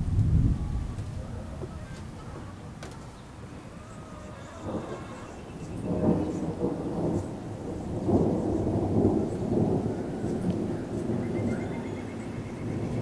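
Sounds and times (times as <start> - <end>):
rolling thunder: 0.0 - 2.2, 3.4 - 13.0.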